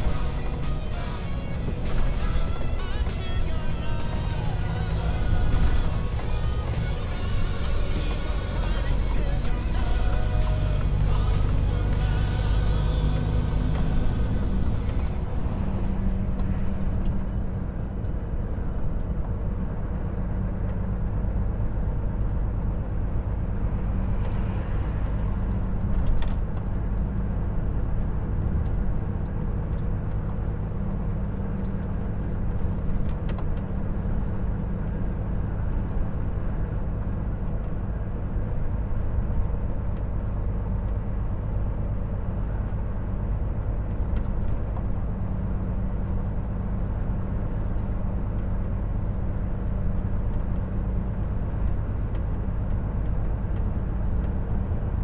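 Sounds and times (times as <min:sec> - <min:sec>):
road and tyre noise: 0:00.0 - 0:55.0
truck diesel engine drone: 0:00.0 - 0:55.0.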